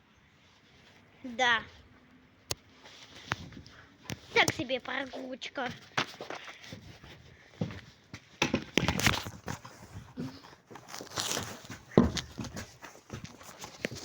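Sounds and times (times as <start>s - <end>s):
rustling: 0.2s - 14.0s
footsteps: 0.5s - 14.0s.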